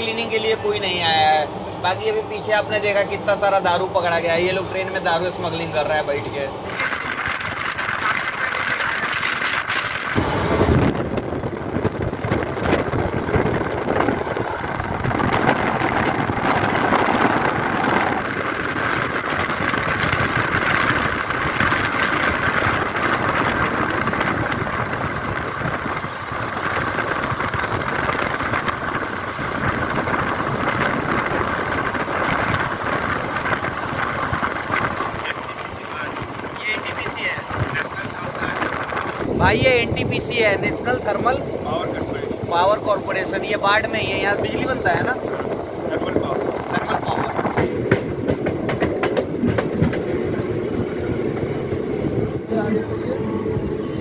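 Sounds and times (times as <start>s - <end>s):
train wheel and track noise: 0.0s - 54.0s
wind: 0.0s - 54.0s.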